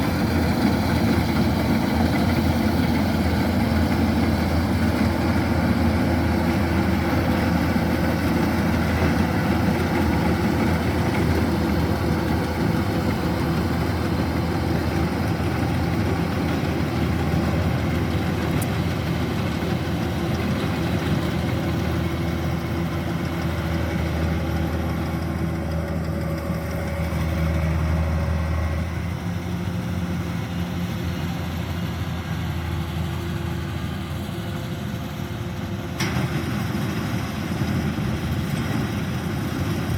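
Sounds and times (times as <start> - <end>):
combine harvester engine and threshing: 0.0 - 39.9.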